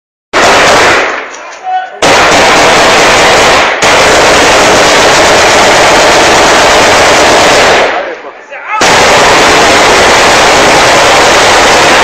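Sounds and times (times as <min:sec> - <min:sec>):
automatic rifle fire: 0:00.4 - 0:01.3, 0:02.0 - 0:08.1, 0:08.8 - 0:12.0.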